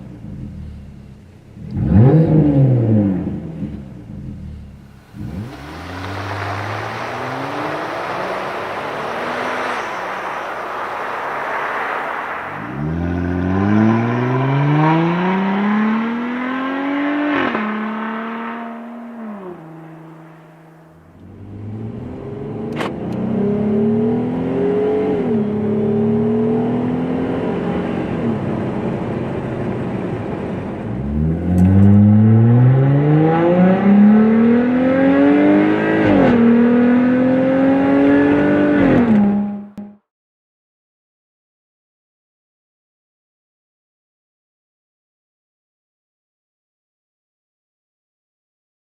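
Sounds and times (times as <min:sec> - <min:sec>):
car engine accelerating hard: 0:00.0 - 0:40.0.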